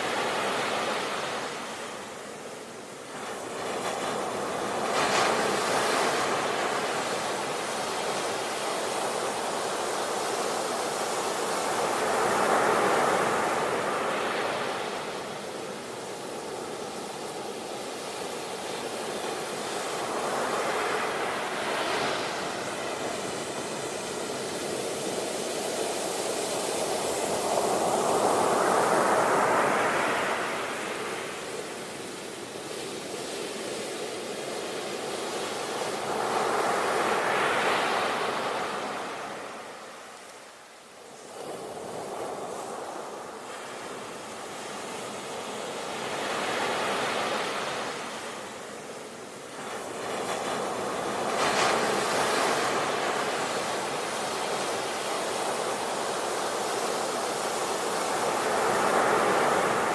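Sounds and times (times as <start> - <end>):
sea waves breaking on shore: 0.0 - 59.9
surf hiss: 0.0 - 59.9.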